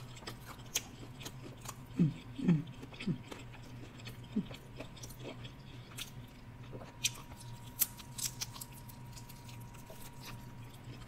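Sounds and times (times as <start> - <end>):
chewing crispy shrimp: 0.0 - 11.0.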